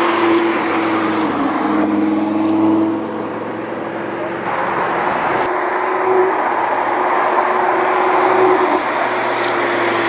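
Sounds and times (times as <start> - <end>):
sports car driving past: 0.0 - 10.0.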